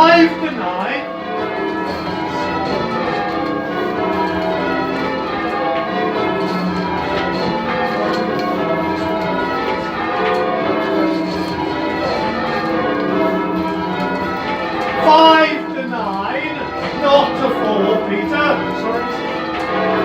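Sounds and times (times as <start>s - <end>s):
church bells ringing in rounds: 0.0s - 20.0s.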